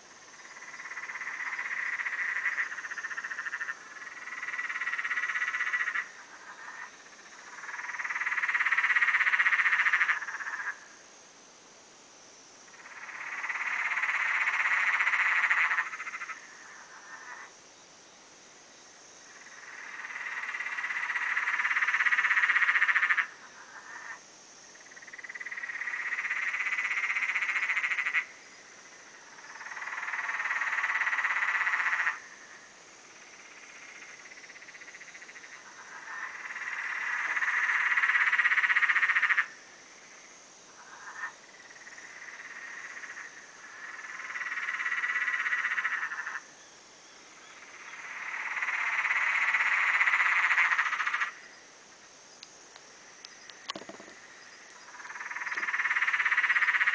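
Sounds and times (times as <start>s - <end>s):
faint high hiss: 0.0s - 56.9s.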